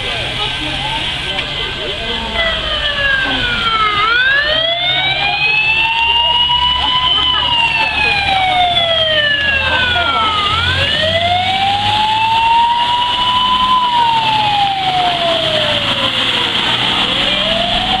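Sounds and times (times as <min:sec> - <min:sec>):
water spraying from wheels: 0:00.0 - 0:18.0
fire truck siren wailing: 0:01.6 - 0:18.0.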